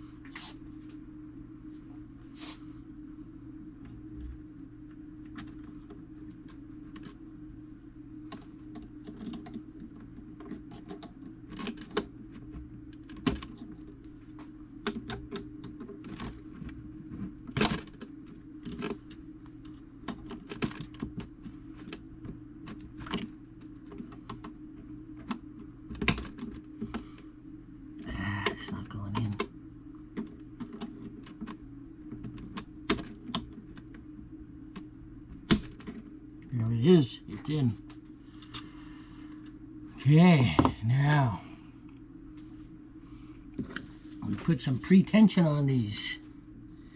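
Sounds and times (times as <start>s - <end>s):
low hum: 0.0s - 46.9s.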